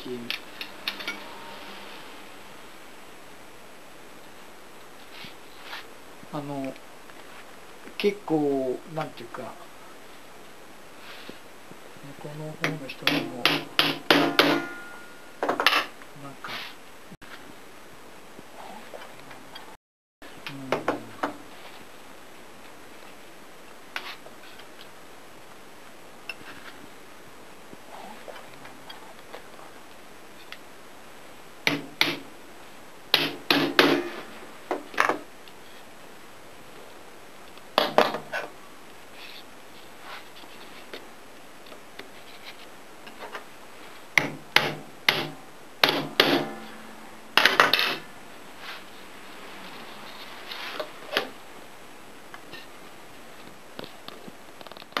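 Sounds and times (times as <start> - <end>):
low steady hiss: 0.0 - 55.0.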